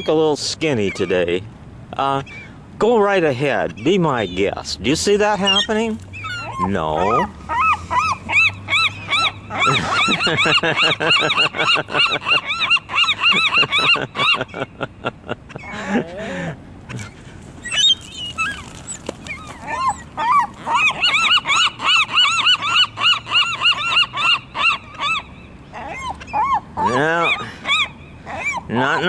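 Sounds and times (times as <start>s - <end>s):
seagulls squabbling and calling: 0.0s - 1.4s, 2.0s - 29.0s.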